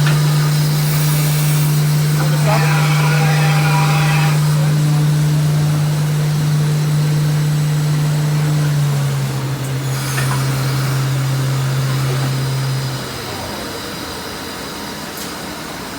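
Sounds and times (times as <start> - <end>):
lathe machine humming: 0.0 - 15.9.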